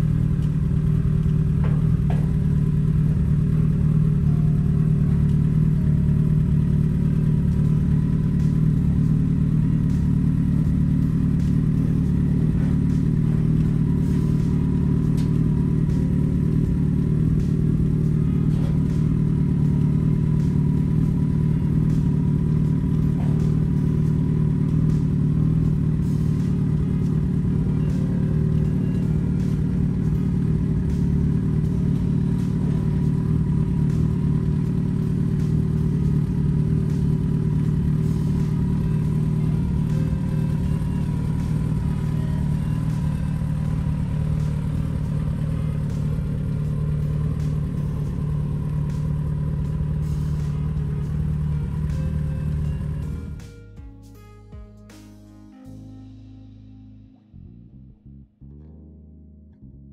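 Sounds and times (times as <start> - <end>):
vehicle engine idling: 0.0 - 58.4.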